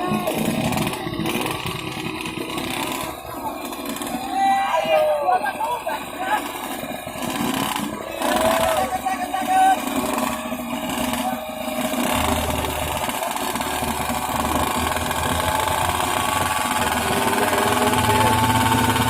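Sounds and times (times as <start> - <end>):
two-stroke motorcycle engine buzzing: 0.0 - 19.0.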